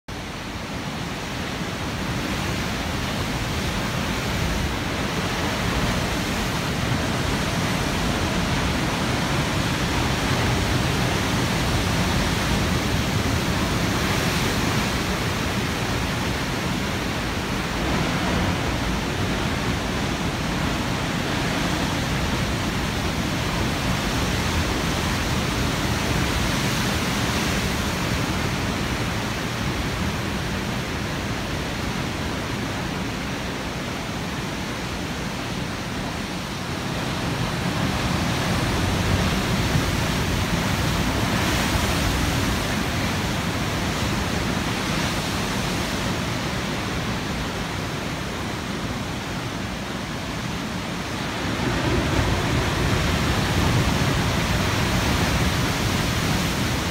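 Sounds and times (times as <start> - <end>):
ocean waves breaking over rocks: 0.1 - 56.9.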